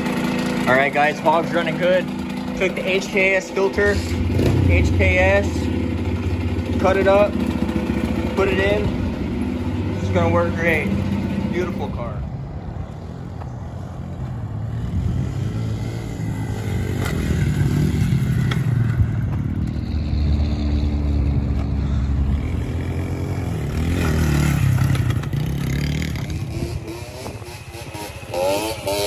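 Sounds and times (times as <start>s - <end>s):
dirt bike engine revving: 0.0s - 12.2s, 14.3s - 29.0s.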